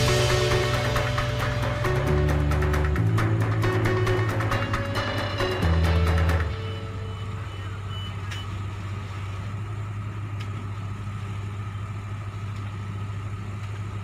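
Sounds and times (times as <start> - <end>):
diesel machinery humming: 0.0 - 14.0.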